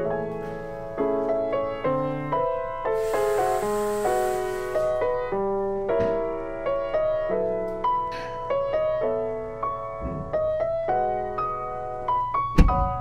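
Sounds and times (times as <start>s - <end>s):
gentle solo piano music: 0.0s - 3.1s, 4.2s - 13.0s.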